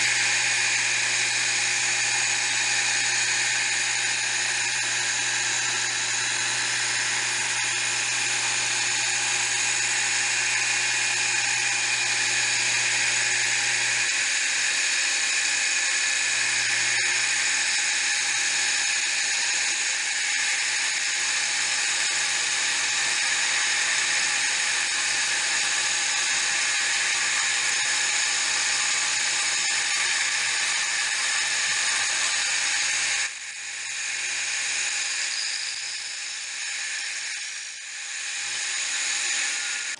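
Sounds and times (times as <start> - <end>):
spindle motor whine: 0.0 - 39.9.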